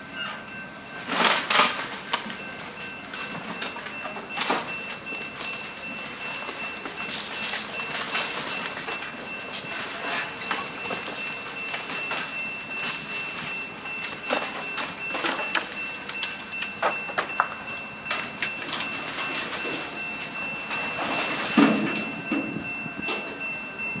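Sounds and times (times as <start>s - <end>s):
heavy machinery running: 0.0s - 24.0s.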